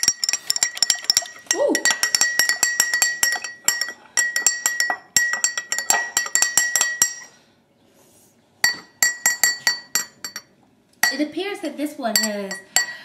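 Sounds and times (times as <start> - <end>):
spoon clinking against glass: 0.0 - 7.3, 8.6 - 11.2, 12.2 - 13.0.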